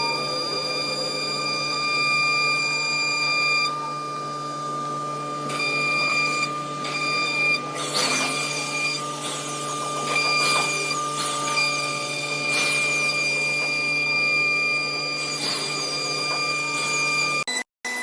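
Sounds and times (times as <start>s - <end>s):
power tool motor whining: 0.0s - 18.0s
tool scraping material: 1.7s - 17.5s.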